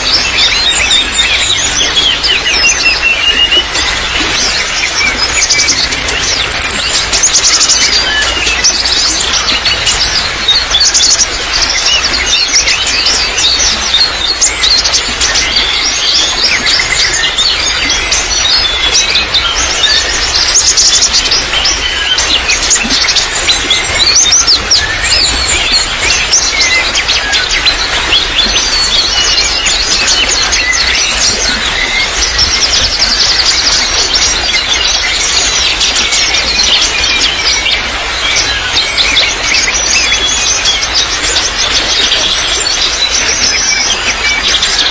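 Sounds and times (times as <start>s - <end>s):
small birds chirping and trilling: 0.0s - 44.9s
water trickling: 0.0s - 44.9s.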